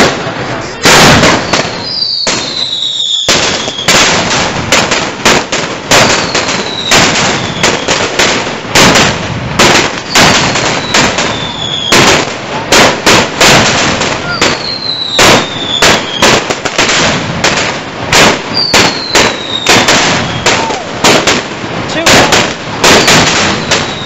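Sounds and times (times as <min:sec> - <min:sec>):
firecrackers banging: 0:00.0 - 0:24.0.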